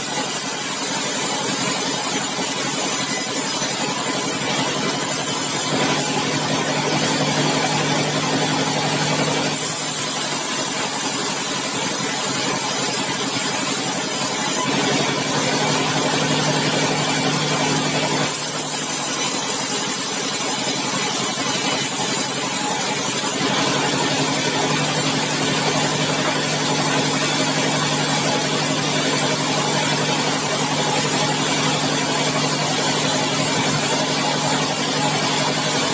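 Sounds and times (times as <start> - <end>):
sawmill machinery humming: 0.0 - 35.9.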